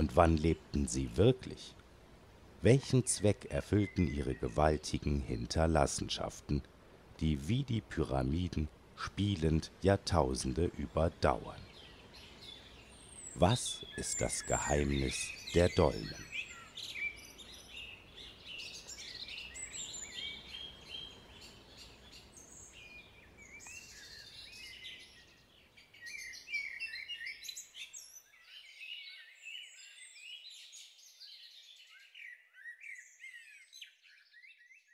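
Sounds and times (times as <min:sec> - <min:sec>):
birds singing and chirping: 0:00.0 - 0:01.8, 0:02.6 - 0:34.9.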